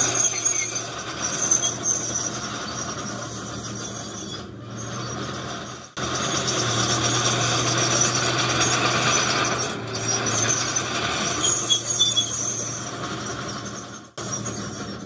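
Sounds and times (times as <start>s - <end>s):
bulldozer diesel engine hum: 0.0s - 15.0s
high squeaks from tracks: 0.0s - 15.0s
tracks and blade grinding: 0.0s - 15.0s.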